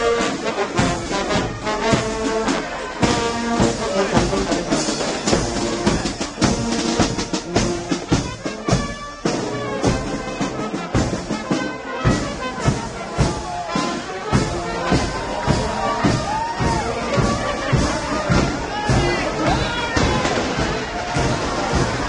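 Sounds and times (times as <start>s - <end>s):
brass band playing: 0.0s - 22.0s
steady drum beat: 0.0s - 22.0s.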